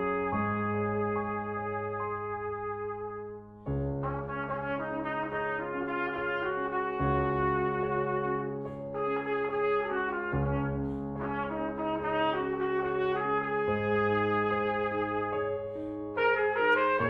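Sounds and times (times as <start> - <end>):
brass instruments playing melody: 0.0 - 15.5, 16.1 - 17.0.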